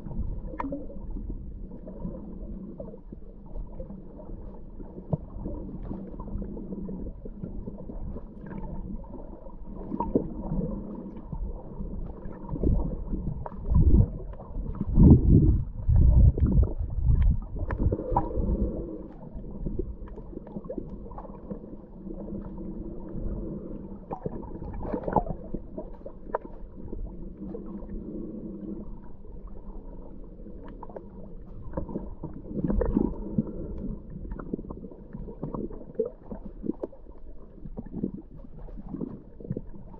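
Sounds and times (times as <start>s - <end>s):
low water gurgling surges: 0.0s - 39.9s
muffled underwater water rumble: 0.0s - 39.9s.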